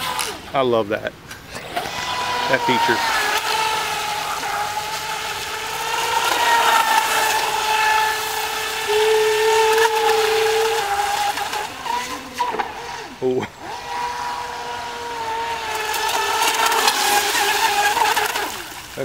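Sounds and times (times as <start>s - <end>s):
lower motor whine: 1.3s - 19.0s
electric motor high whine: 1.5s - 19.0s.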